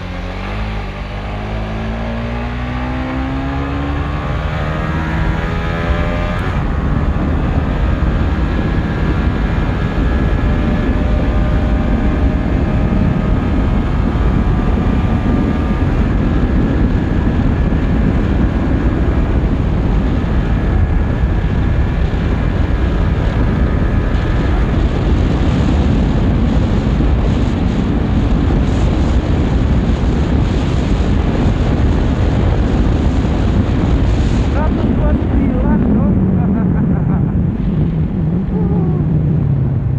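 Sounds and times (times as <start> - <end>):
motorcycle engine at high revs: 0.0 - 39.3
wind buffeting microphone: 0.0 - 39.9.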